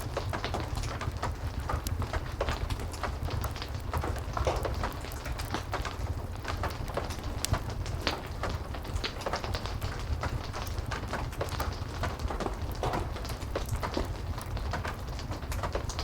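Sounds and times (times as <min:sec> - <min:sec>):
heavy rain: 0:00.0 - 0:16.0
wood fire crackling and popping: 0:00.0 - 0:16.0.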